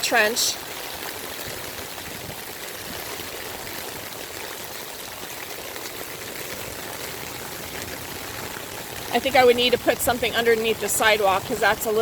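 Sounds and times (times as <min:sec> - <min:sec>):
rainwater running: 0:00.0 - 0:12.0.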